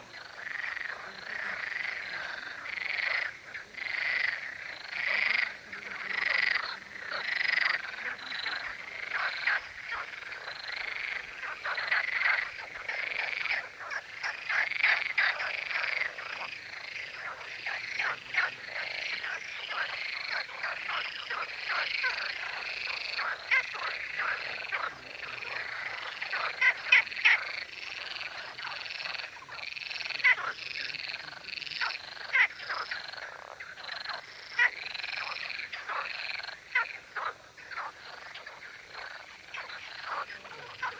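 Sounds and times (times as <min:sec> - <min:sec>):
chorus of frogs croaking: 0:00.0 - 0:40.9.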